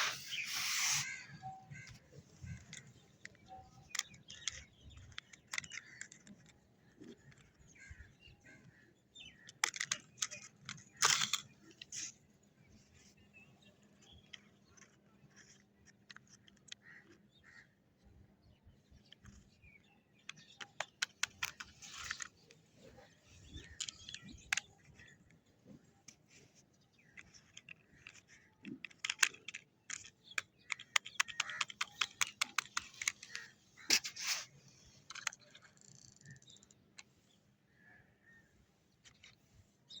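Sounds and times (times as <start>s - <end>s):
plastic toy vehicles clicking and tapping: 0.0s - 37.3s, 38.9s - 40.0s.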